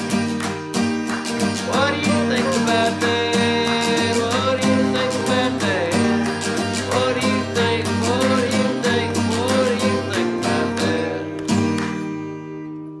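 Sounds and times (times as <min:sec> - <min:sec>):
strummed acoustic guitar: 0:00.0 - 0:13.0
person singing: 0:01.4 - 0:11.8.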